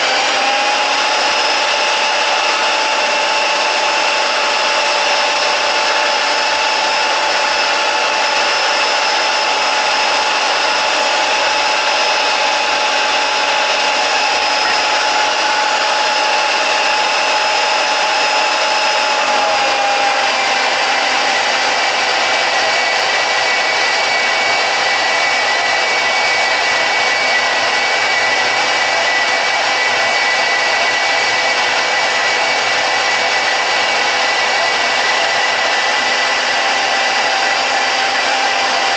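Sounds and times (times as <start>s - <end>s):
band saw cutting metal: 0.0s - 38.9s.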